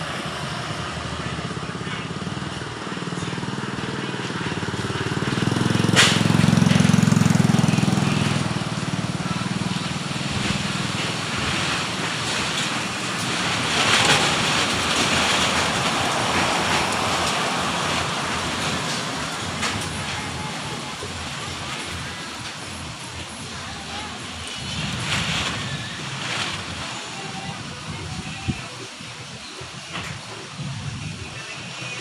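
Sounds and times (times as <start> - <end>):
heavy rain: 0.0 - 32.0
vehicle engine hum: 0.0 - 32.0
strong wind: 5.6 - 31.8.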